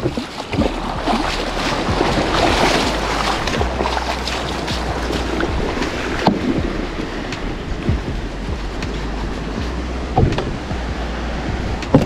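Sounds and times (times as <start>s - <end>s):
water washing at shoreline: 0.0s - 12.0s
wind rumbling on microphone: 0.0s - 12.0s.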